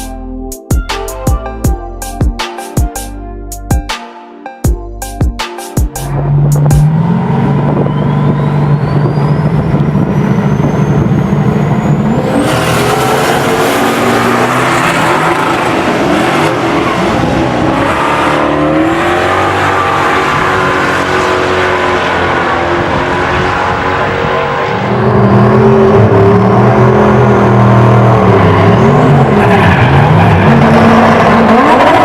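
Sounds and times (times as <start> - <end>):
high whine rising in pitch: 5.9 - 31.9
drag car engine revving: 6.0 - 32.0.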